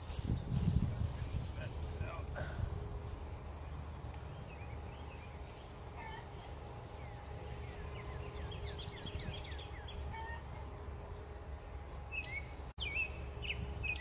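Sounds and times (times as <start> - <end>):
low steady rumble: 0.0 - 14.0
songbird singing: 0.0 - 14.0.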